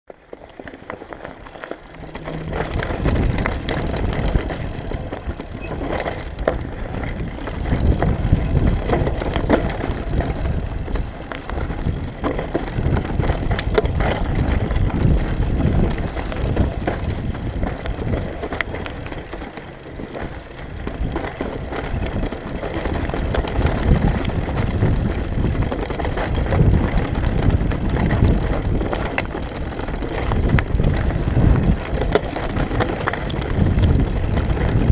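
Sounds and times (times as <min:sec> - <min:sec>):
bike rattling over bumps: 0:00.1 - 0:34.9
bike tyres on loose gravel: 0:00.1 - 0:34.9
wind buffeting microphone: 0:00.6 - 0:34.9.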